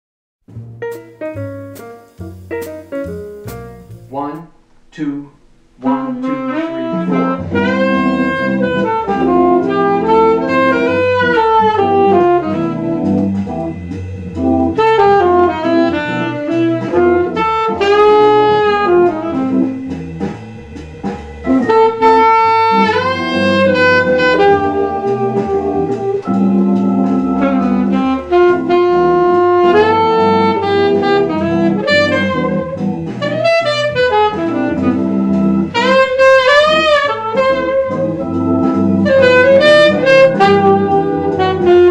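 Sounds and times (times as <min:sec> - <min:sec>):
backing track bass chords drums: 0:00.4 - 0:41.9
alto saxophone jazz melody: 0:00.5 - 0:05.2, 0:05.8 - 0:41.9.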